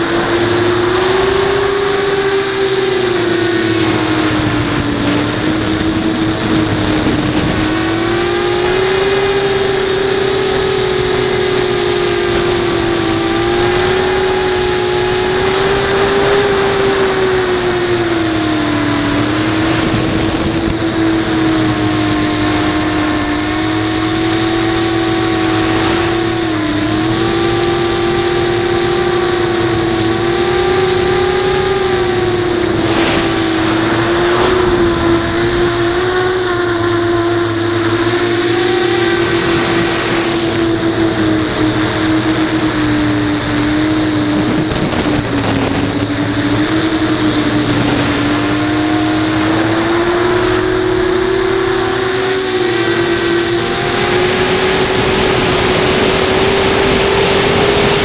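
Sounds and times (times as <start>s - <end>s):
drone motors whining: 0.0s - 58.0s
wind noise: 0.0s - 58.0s.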